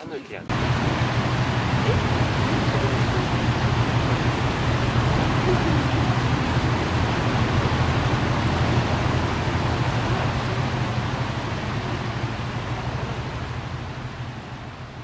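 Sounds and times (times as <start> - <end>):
fountain splashing into pond: 0.5 - 15.0.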